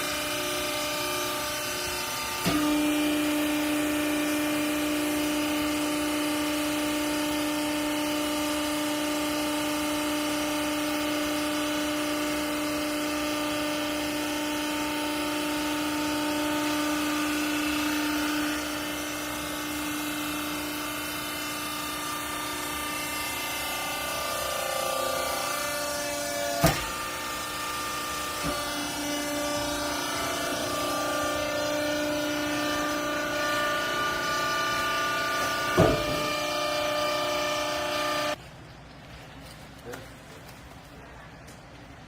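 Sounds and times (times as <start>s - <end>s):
hydraulic pump whine: 0.0s - 38.4s
low machine hum: 0.0s - 42.0s.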